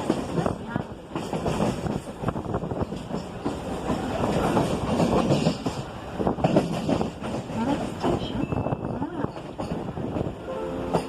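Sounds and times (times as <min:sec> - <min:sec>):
train rumbling: 0:00.0 - 0:11.0
wheels clattering on track: 0:00.0 - 0:11.0.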